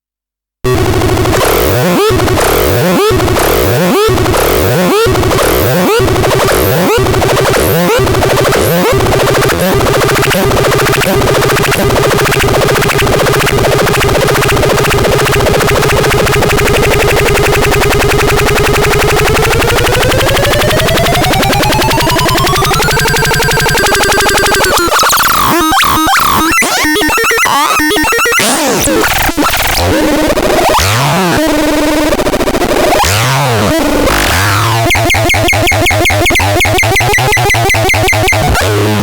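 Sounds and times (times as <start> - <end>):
synthesizer chirps and buzzing drone: 0.7 - 31.0, 31.6 - 39.0.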